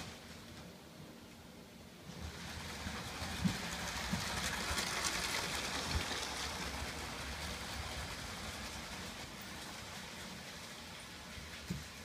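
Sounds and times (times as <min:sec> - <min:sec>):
toy train rattling hum: 0:02.0 - 0:12.0.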